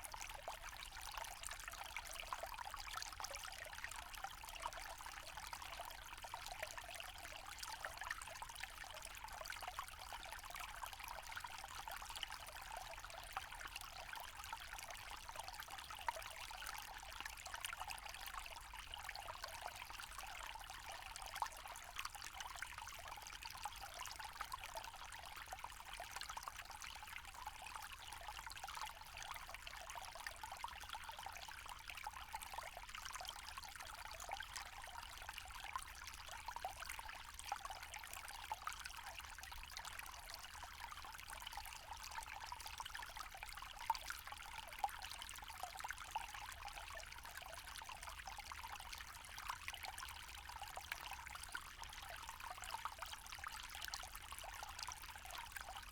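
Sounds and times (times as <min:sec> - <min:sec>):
stream trickling over stones: 0:00.0 - 0:55.9.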